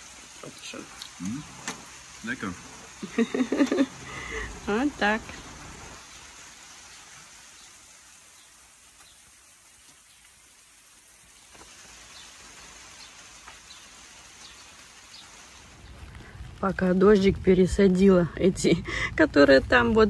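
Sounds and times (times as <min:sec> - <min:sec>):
light rain hiss: 0:00.0 - 0:20.0
raindrops tapping: 0:00.0 - 0:20.0.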